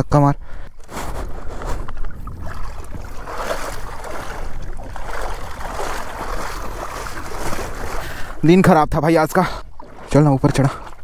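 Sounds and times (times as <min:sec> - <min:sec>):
water sloshing and splashing: 0:00.8 - 0:11.0.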